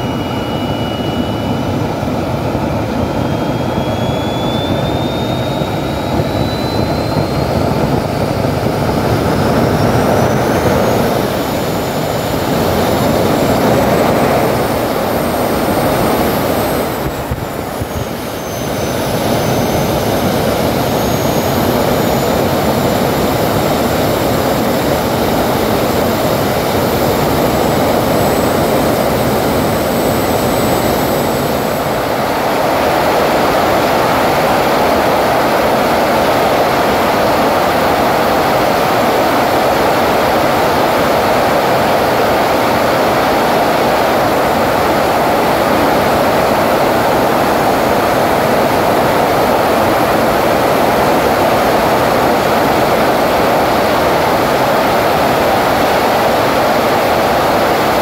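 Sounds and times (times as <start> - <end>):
faint high whine: 0.0 - 58.0
jet engine exhaust rush: 0.0 - 58.0.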